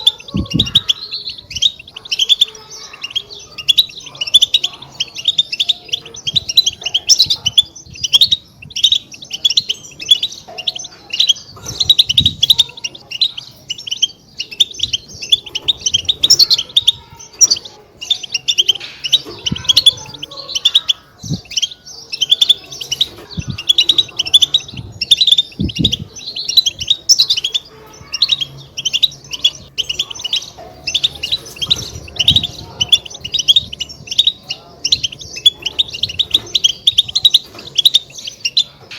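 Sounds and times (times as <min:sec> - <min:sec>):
goldfinch twittering chirps: 0:00.0 - 0:38.9.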